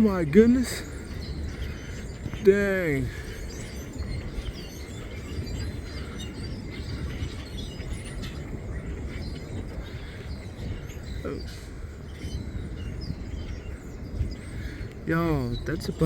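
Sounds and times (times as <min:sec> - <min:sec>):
flock of birds chirping: 0:00.0 - 0:16.0
wind buffeting microphone: 0:00.0 - 0:16.0.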